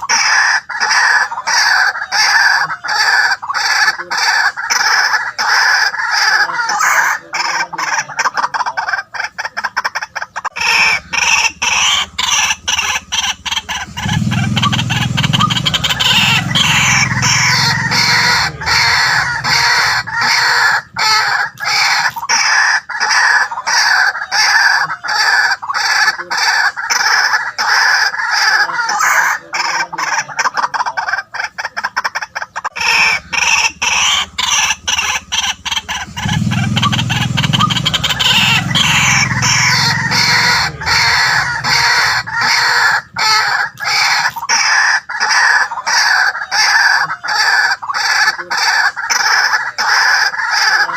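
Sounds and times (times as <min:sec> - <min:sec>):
waterhen calling harshly: 0:00.0 - 0:50.9.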